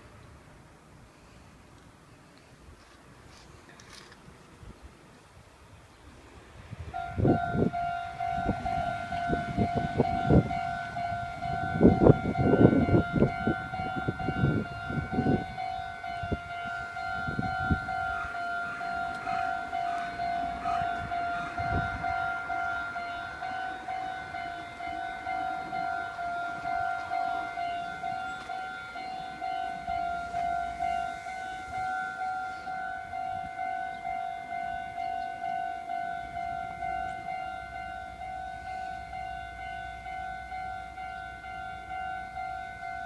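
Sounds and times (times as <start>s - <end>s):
level-crossing warning bell: 6.9s - 43.0s.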